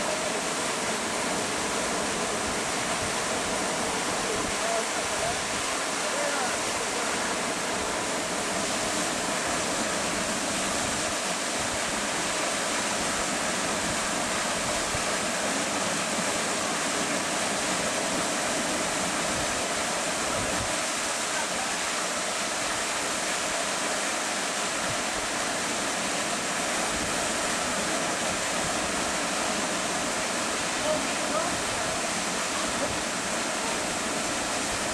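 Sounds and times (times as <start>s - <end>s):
rushing river water: 0.0s - 34.9s.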